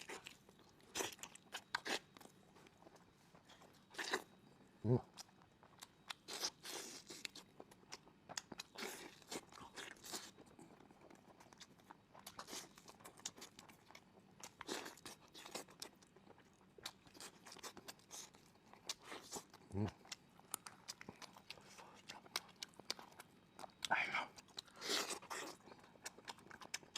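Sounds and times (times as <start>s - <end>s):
person chewing and biting: 0.0s - 4.4s, 5.0s - 26.9s.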